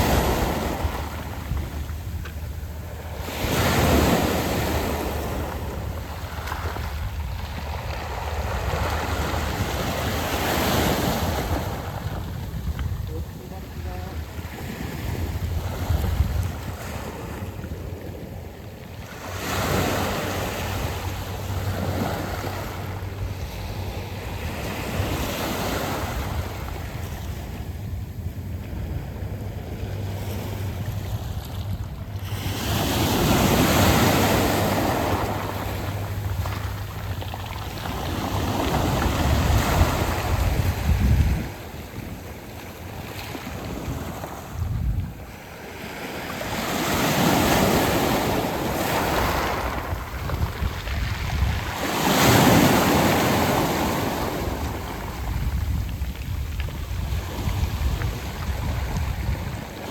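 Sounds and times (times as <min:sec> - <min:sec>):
waves washing over pebbles: 0:00.0 - 0:59.9.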